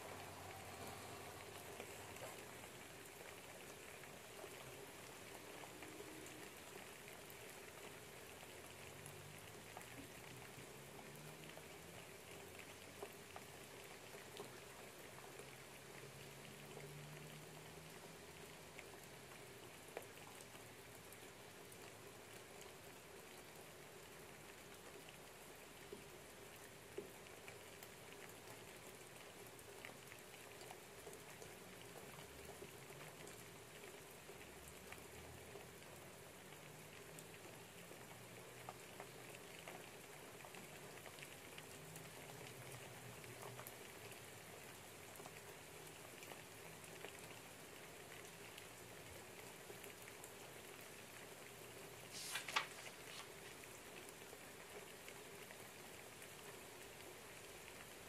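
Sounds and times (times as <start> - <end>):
light rain pattering: 0.0 - 58.0
rustle: 0.0 - 58.0.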